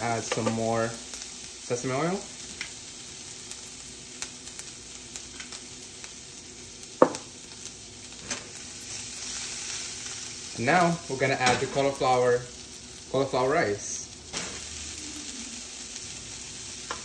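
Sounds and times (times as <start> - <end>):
garlic sizzling in oil: 0.0 - 17.0.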